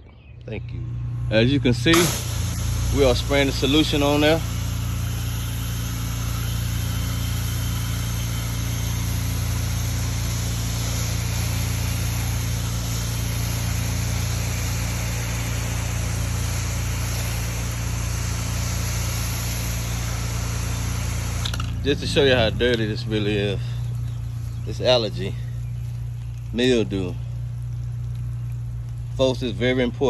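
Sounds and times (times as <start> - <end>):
pressure washer engine running: 1.0 - 30.0
hiss of spray: 1.9 - 26.3.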